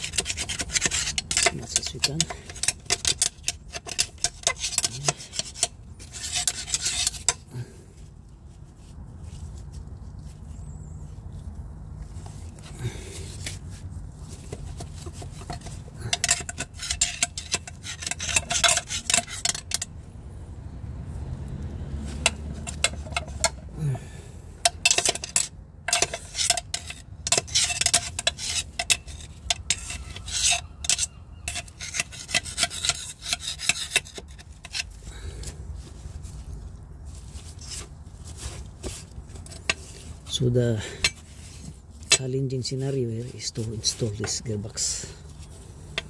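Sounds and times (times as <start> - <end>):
rag rubbing and scraping grease: 0.0 - 7.8, 12.0 - 19.9, 22.0 - 23.7, 24.6 - 46.0.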